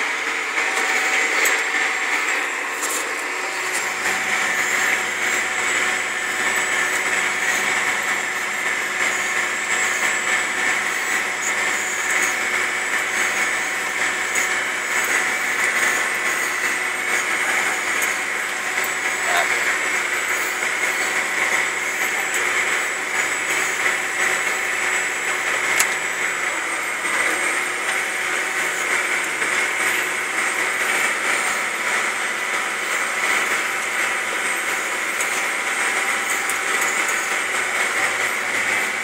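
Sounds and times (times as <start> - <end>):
tractor engine drone: 0.0 - 39.0.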